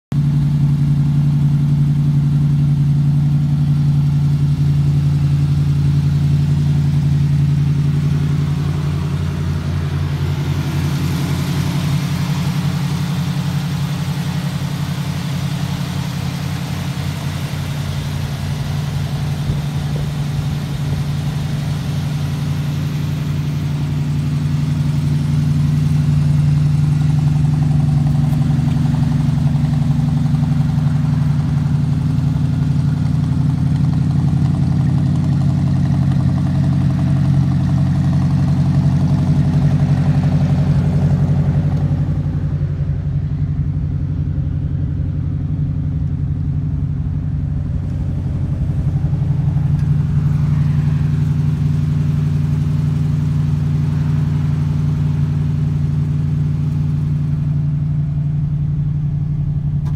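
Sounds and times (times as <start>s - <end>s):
car engine idling: 0.1s - 59.9s.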